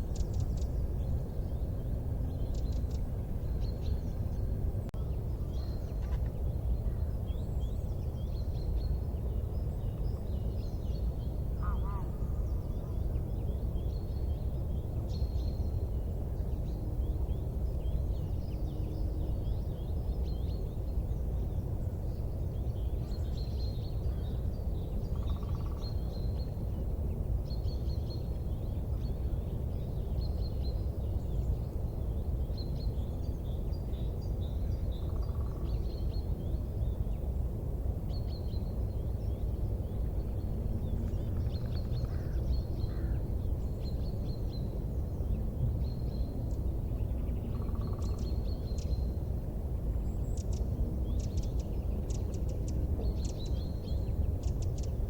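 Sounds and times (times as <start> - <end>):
small birds chirping: 0.0 - 37.3, 38.0 - 55.0.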